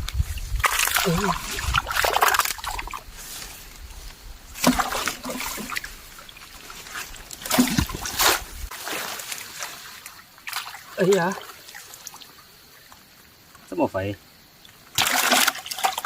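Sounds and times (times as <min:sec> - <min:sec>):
muddy water splashing: 0:00.0 - 0:13.4, 0:14.6 - 0:16.0.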